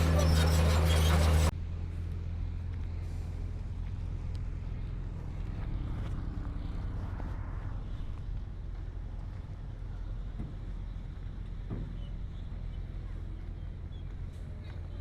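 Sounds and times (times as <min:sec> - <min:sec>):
diesel engine low rumble: 0:00.0 - 0:15.0.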